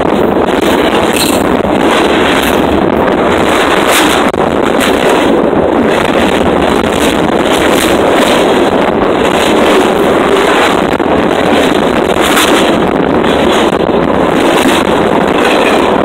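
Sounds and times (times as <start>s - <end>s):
steel wheels roaring on rail: 0.0s - 16.0s
wind on microphone: 0.0s - 16.0s.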